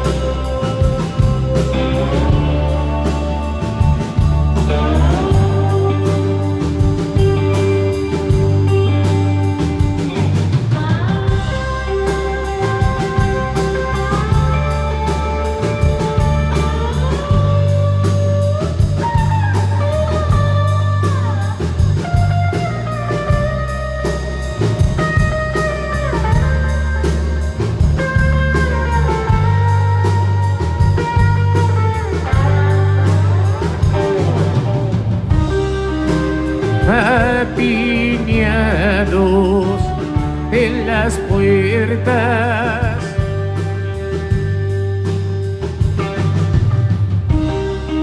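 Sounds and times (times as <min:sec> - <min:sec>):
drum kit with cymbals: 0:00.0 - 0:48.0
electric guitar lead with slides: 0:00.0 - 0:48.0
steady bass: 0:00.0 - 0:48.0.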